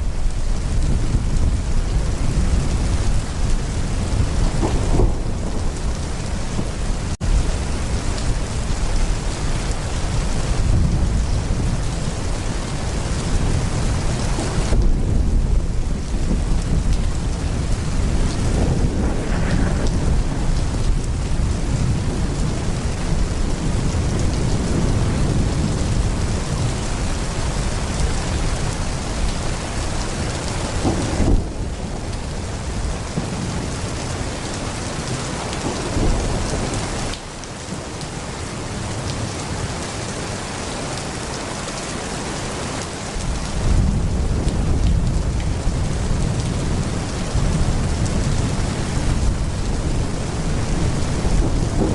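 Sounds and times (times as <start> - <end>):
rolling thunder rumble: 0.0 - 37.9, 43.2 - 51.9
heavy rain pouring: 0.0 - 51.9.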